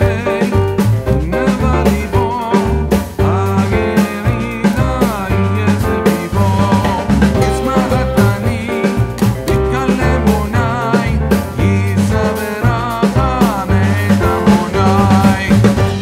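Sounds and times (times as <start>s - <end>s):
background music with drums: 0.0s - 16.0s.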